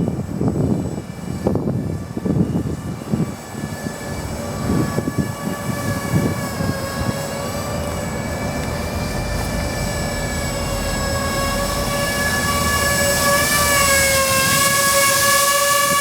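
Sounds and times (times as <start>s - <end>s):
electric rotors whining: 0.0s - 16.0s
wind buffeting microphone: 0.0s - 16.0s.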